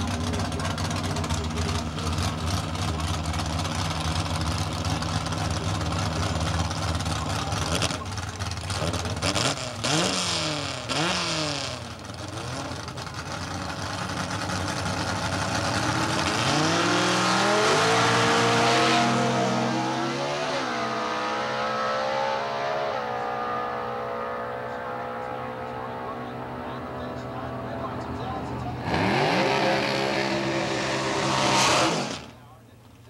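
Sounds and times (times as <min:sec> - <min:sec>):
race car engine accelerating: 0:00.0 - 0:32.4.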